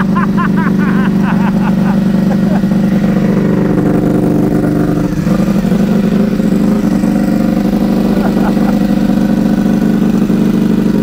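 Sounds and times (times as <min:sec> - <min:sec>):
motorcycle engine idling loudly: 0:00.0 - 0:11.0.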